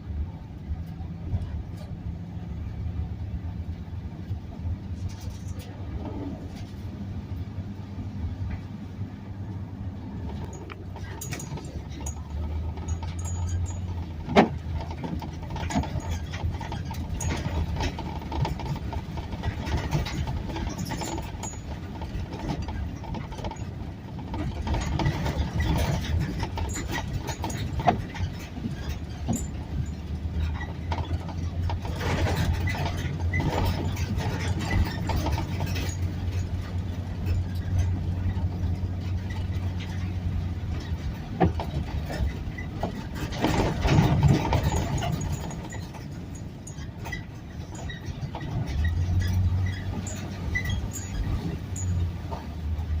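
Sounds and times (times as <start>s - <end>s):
vehicle engine humming: 0.0s - 53.0s.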